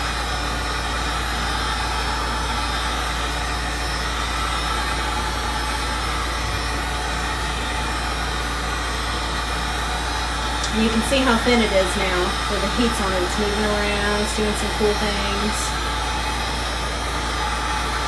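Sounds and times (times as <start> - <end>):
heat gun blowing: 0.0 - 18.0.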